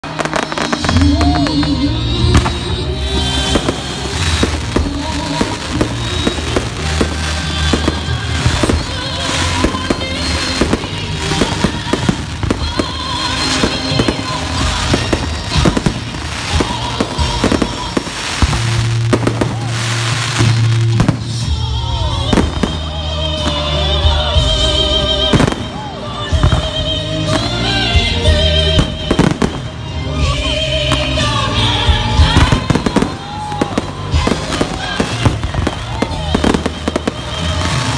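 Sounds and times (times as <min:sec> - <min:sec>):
fireworks bangs and crackling: 0:00.0 - 0:37.9
loud music with heavy bass: 0:00.1 - 0:37.9.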